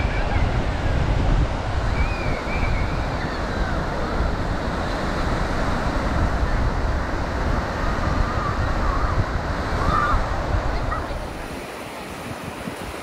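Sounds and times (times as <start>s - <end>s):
ocean surf on sand: 0.0s - 13.0s
wind buffeting microphone: 0.0s - 13.0s.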